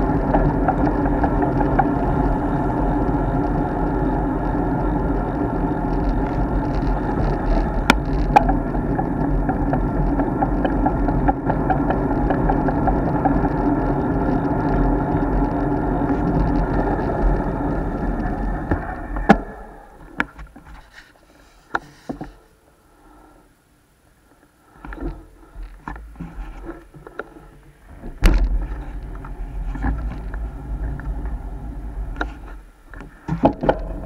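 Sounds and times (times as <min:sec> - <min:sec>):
wind noise: 0:00.0 - 0:22.4, 0:24.7 - 0:34.0
bicycle tyre rumble: 0:00.0 - 0:34.0.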